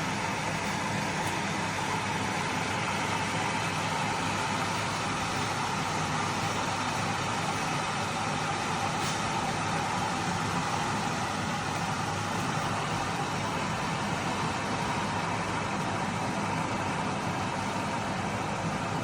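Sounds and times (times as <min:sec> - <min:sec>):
electric kettle heating water: 0:00.0 - 0:19.0.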